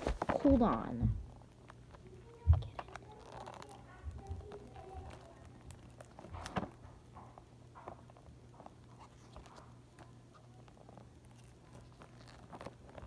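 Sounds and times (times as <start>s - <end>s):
faint taps and rustles: 0.0s - 13.0s.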